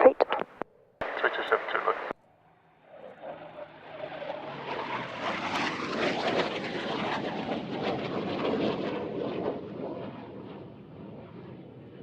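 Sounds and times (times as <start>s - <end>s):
airplane engine roar passing: 1.0s - 12.0s.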